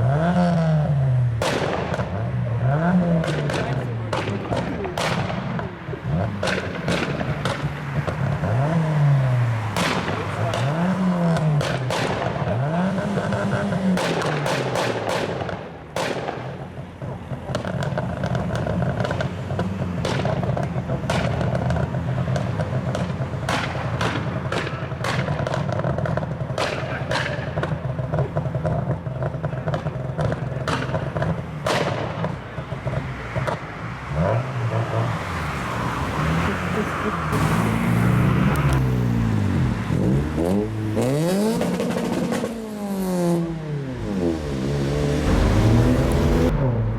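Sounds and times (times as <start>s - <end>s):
car engine revving: 0.0s - 46.9s
exhaust pops and bangs: 0.1s - 46.9s.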